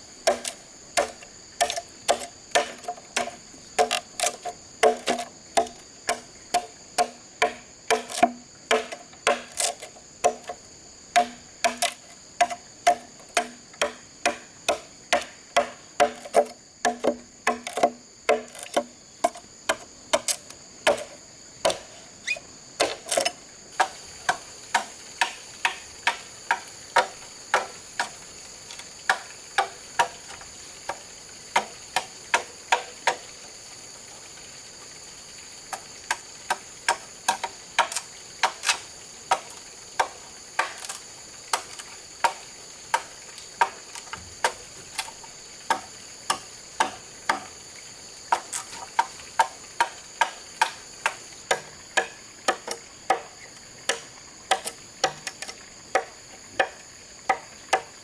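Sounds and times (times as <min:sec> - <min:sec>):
hand tool knocking bamboo: 0:00.2 - 0:10.6, 0:11.2 - 0:28.2, 0:36.1 - 0:42.4, 0:43.0 - 0:47.5, 0:48.3 - 0:57.9.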